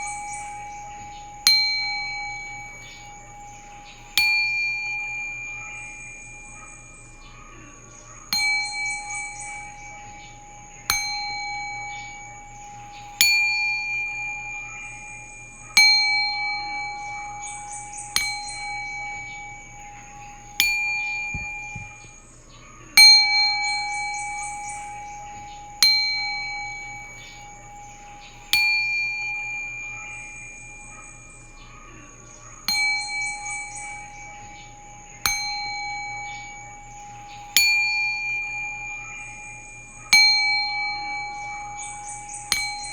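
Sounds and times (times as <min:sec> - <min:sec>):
bell ringing: 0:00.0 - 0:07.5, 0:08.3 - 0:22.2, 0:23.0 - 0:42.9
faint high tinkling: 0:00.0 - 0:42.9.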